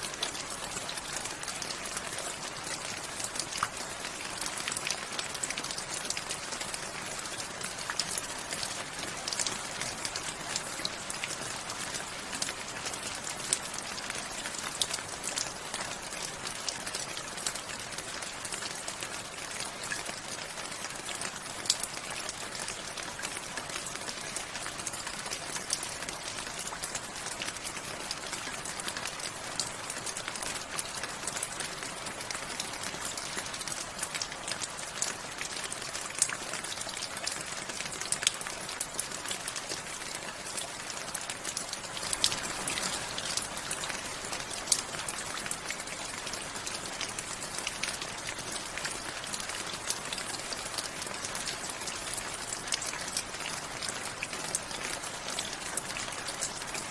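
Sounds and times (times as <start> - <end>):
raindrops ticking on hard surface: 0.0 - 56.9
steady rain hiss: 0.0 - 56.9.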